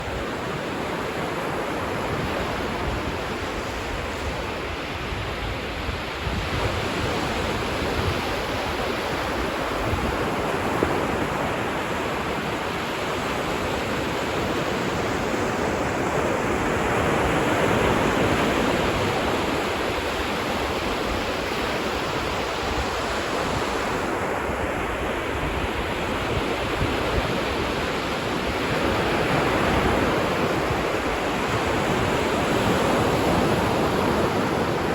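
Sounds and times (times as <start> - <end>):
ocean waves breaking on beach: 0.0 - 34.9.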